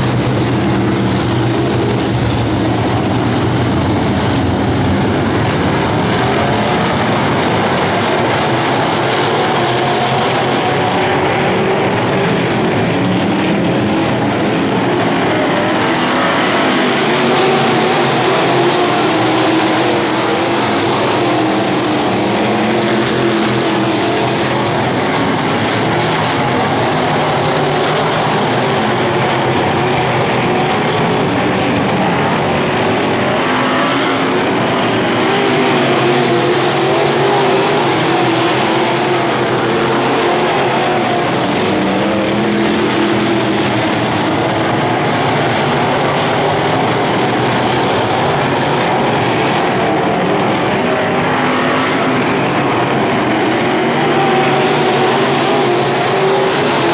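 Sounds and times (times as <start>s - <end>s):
race car engines roaring: 0.0s - 56.9s.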